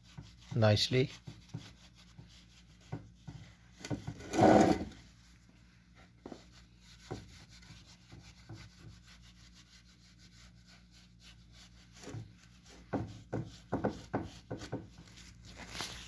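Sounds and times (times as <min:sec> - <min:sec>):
tissue paper wiping metal pan: 0:00.0 - 0:03.8, 0:04.9 - 0:16.0.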